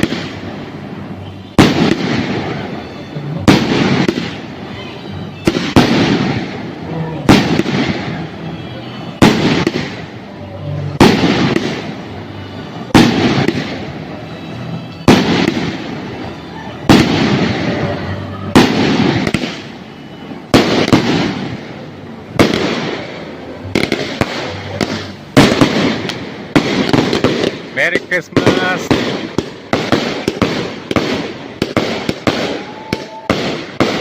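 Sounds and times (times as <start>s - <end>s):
fireworks bangs with crackle: 0.0s - 34.0s.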